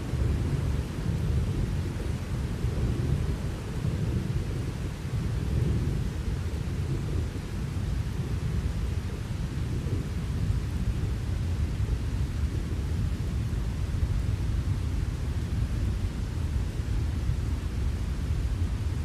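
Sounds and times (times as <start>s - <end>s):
rain hissing: 0.0s - 19.0s
rumble of thunder: 0.0s - 19.0s.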